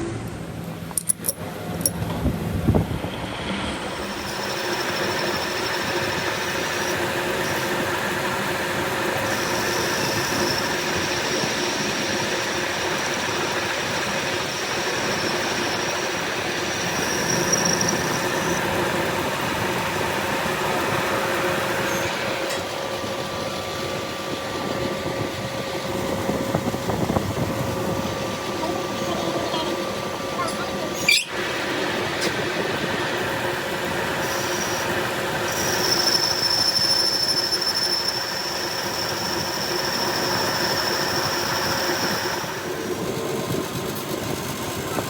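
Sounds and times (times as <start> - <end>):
high whine: 0.0 - 43.2
metal lathe humming: 3.5 - 44.0.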